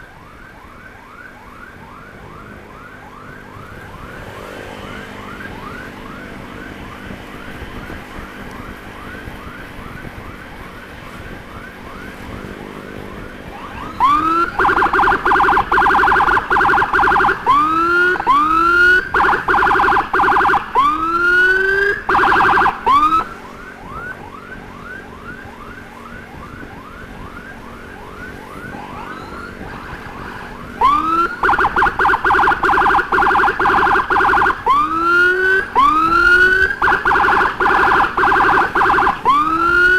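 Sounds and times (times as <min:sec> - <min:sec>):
faint siren yelping: 0:00.0 - 0:39.9
loud siren whooping and warbling: 0:00.0 - 0:39.9.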